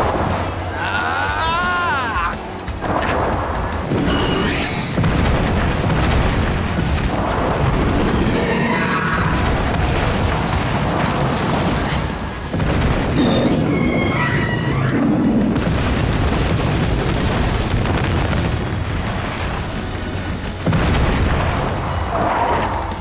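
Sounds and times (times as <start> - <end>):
crashing ground: 0.0 - 23.0
heavy rumbling: 0.0 - 23.0
explosion booms: 2.8 - 19.8, 20.4 - 23.0.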